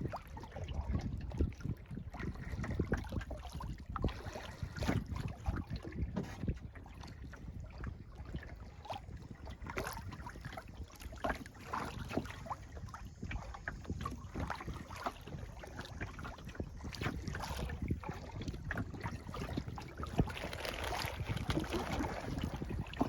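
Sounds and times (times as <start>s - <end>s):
paddle splashing in water: 0.0s - 23.0s
wind rumble on microphone: 0.0s - 23.0s.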